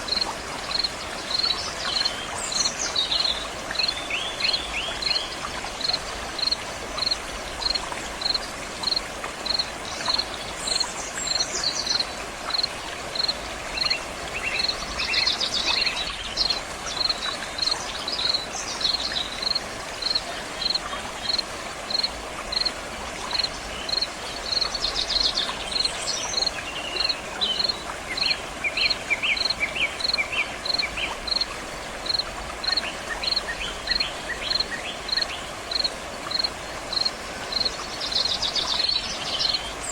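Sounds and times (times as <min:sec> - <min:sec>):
water flowing: 0:00.0 - 0:39.9
insect chirping: 0:00.1 - 0:05.2, 0:05.8 - 0:14.0, 0:16.4 - 0:22.7, 0:23.3 - 0:28.3, 0:29.3 - 0:37.7.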